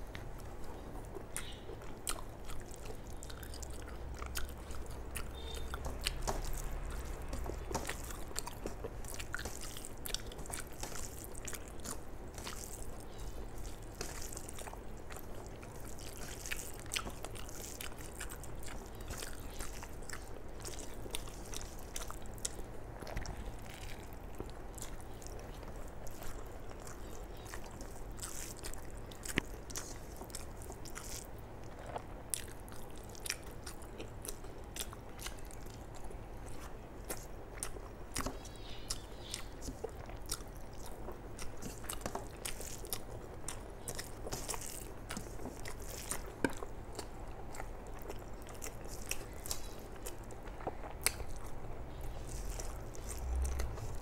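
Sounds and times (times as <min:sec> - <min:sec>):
person chewing: 0:00.0 - 0:54.0.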